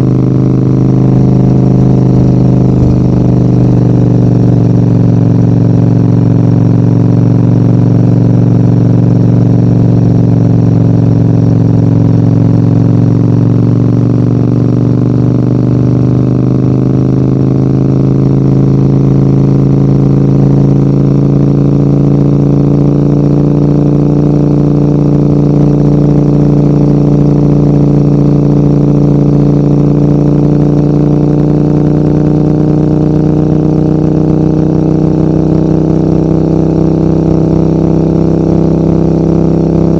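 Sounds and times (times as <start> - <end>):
motorcycle engine pulling uphill: 0.0 - 39.9.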